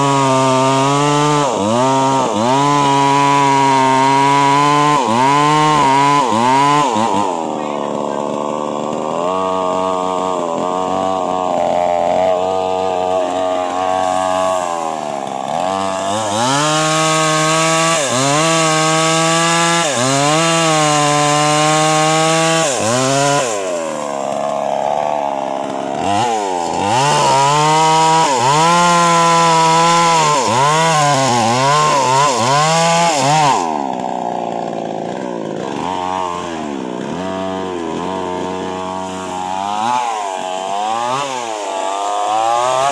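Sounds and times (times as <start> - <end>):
chainsaw cutting tree: 0.0 - 42.9.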